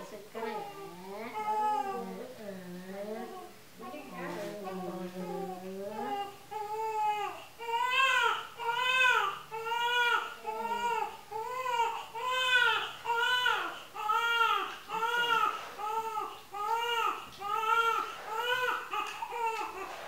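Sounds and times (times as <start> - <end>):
newborn baby crying: 0.6 - 2.2, 4.9 - 19.9.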